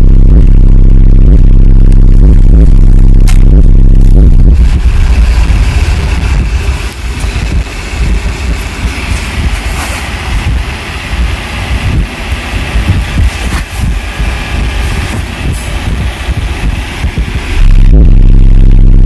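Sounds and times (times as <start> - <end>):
loud deep bass from subwoofer: 0.0 - 19.0.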